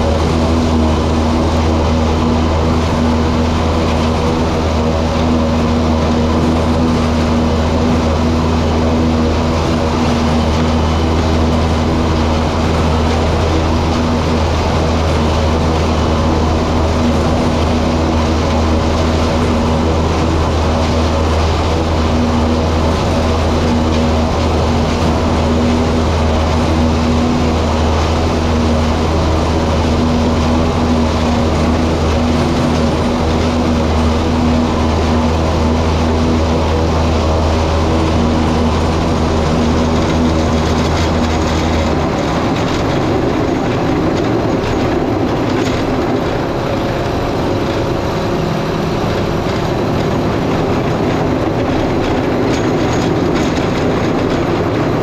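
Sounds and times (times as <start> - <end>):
forage harvester humming: 0.0 - 55.0
tractor engine under load: 0.0 - 55.0.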